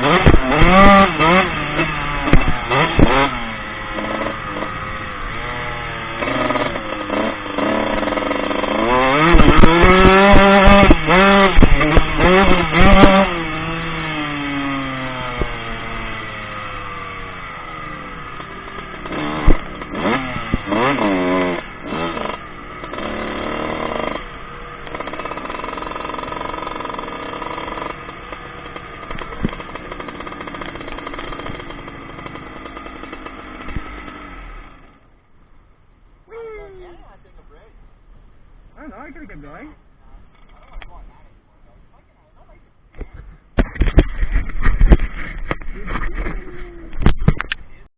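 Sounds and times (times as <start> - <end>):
motocross bike revving: 0.0 - 35.1, 43.6 - 47.9.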